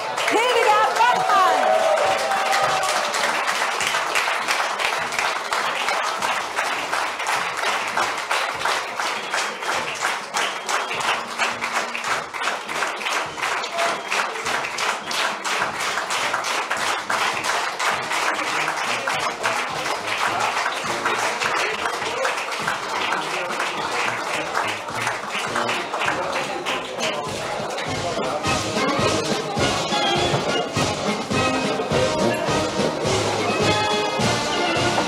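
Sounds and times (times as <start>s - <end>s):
audience applauding: 0.0s - 35.0s
music: 0.0s - 35.0s.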